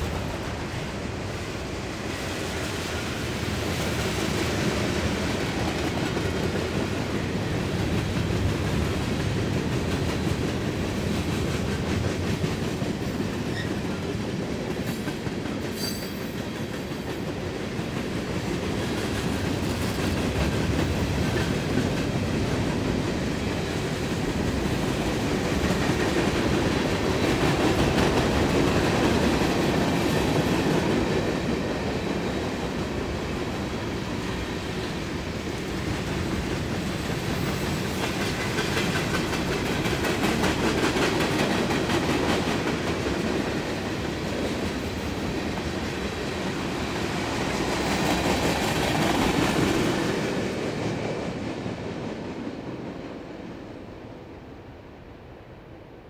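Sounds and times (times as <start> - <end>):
train wheels rumbling on rails: 0.0 - 54.7.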